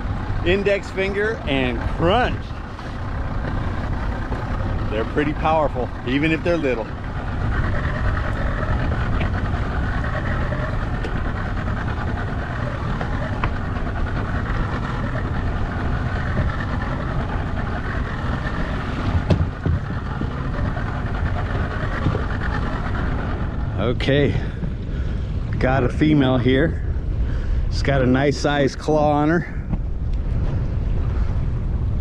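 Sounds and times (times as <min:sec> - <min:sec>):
boat engine running: 0:00.0 - 0:32.0
water noise: 0:00.0 - 0:32.0
wind: 0:00.0 - 0:32.0.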